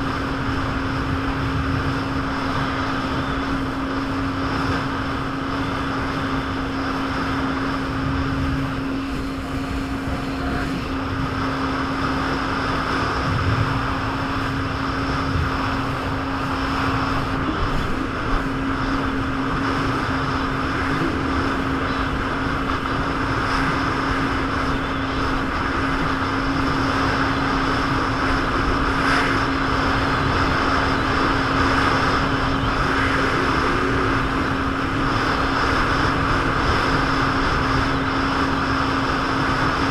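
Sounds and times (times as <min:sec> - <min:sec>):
jet ski engine droning: 0:00.0 - 0:39.9
water rushing noise: 0:00.0 - 0:39.9.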